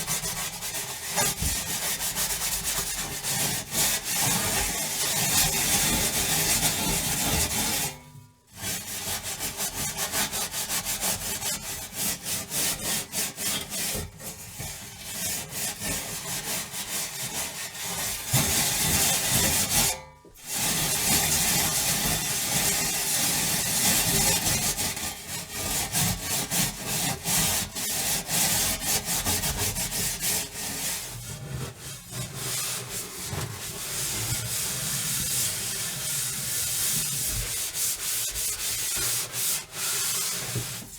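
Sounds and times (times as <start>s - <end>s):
scrubber rubbing oven surface: 0.0s - 8.0s, 8.6s - 40.9s.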